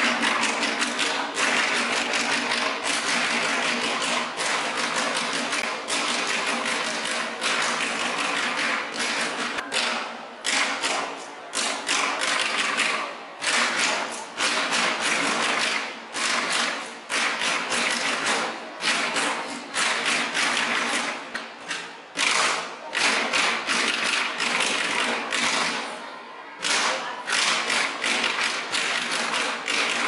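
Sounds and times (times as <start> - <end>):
drumsticks beating plastic bottles: 0.0 - 26.0, 26.6 - 30.0.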